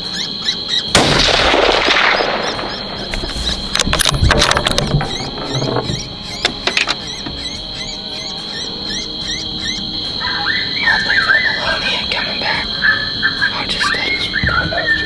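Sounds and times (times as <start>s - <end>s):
high insect drone: 0.0s - 15.0s
rising insect chirp: 0.0s - 15.0s.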